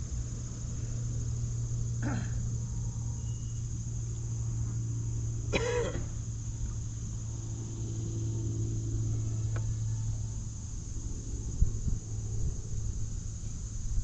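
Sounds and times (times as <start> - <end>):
insects droning: 0.0 - 14.0
steady low hum: 0.0 - 14.0.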